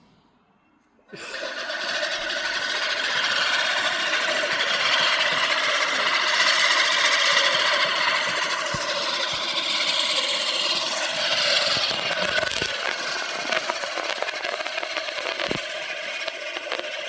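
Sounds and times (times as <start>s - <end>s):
lawn mower running: 1.4s - 17.0s.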